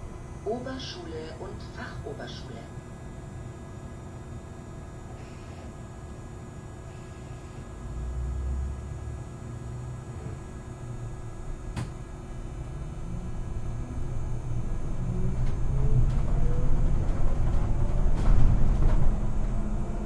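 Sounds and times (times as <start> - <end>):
bus engine rumble: 0.0 - 6.3, 7.1 - 20.0.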